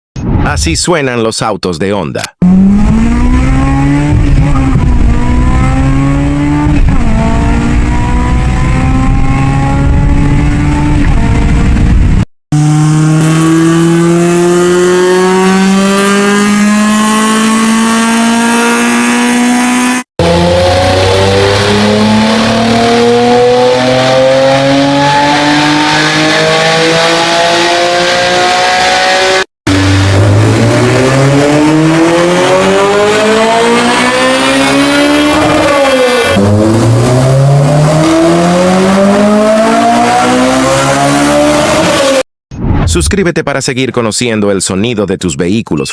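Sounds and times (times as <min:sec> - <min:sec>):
car engine accelerating hard: 0:02.4 - 0:42.3.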